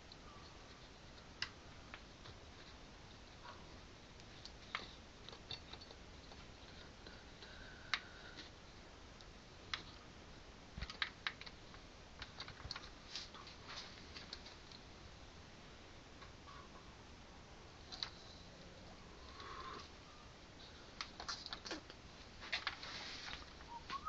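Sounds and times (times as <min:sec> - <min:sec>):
low steady hiss: 0:00.0 - 0:24.0.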